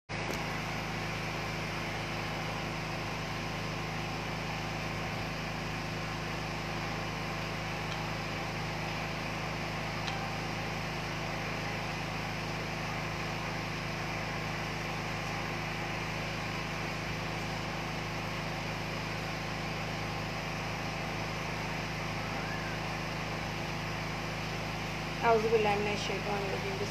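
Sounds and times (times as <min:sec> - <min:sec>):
steady mechanical hum: 0:00.1 - 0:26.9.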